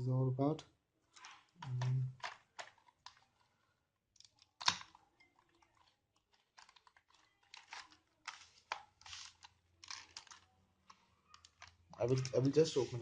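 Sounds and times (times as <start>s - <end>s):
packaging clicks taps and rustles: 1.1s - 3.5s, 4.1s - 13.0s.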